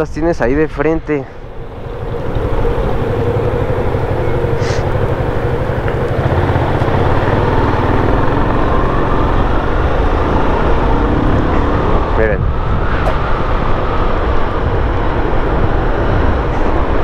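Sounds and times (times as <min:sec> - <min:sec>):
road and wind noise: 0:00.0 - 0:17.0
motorcycle engine running: 0:01.4 - 0:17.0.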